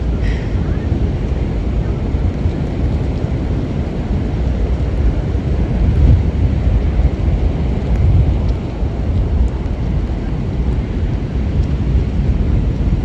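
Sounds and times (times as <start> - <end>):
storm wind buffeting microphone: 0.0 - 13.0.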